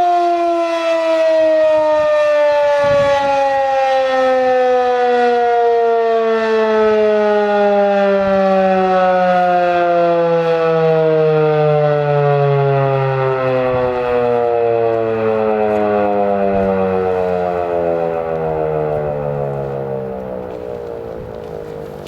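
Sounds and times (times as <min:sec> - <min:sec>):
warning siren winding down: 0:00.0 - 0:22.0.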